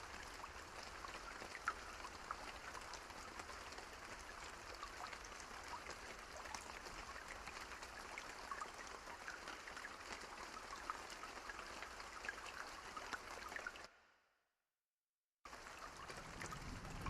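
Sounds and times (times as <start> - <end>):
steady rain with ticking drops: 0.0 - 14.0, 15.5 - 17.0.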